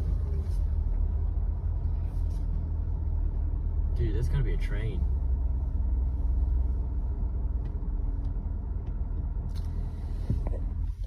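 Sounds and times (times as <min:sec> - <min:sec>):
deep rumble inside a car: 0:00.0 - 0:11.0.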